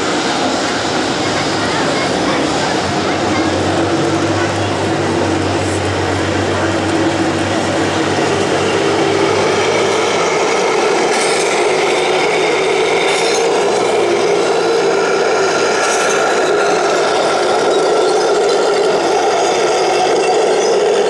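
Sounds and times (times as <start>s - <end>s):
rasping rattle of tracks: 0.0s - 21.0s
toy tanks grinding whine: 1.8s - 21.0s.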